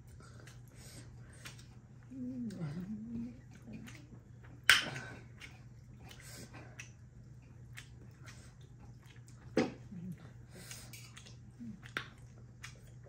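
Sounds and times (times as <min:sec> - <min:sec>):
lip smacks: 0:00.0 - 0:13.0
soft wet chewing: 0:00.0 - 0:13.0.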